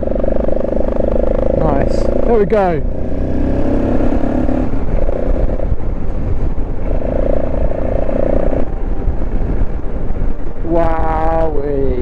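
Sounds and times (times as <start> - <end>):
motorcycle engine running: 0.0 - 11.8
wind rumble on microphone: 0.0 - 12.0.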